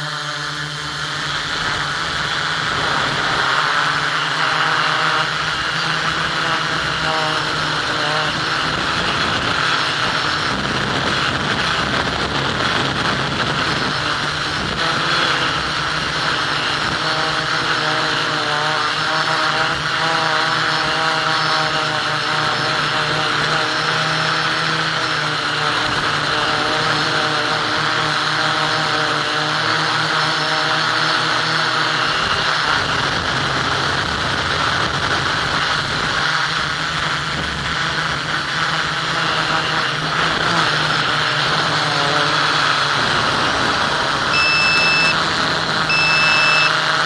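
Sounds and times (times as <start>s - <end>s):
drone motors whining: 0.0s - 47.0s.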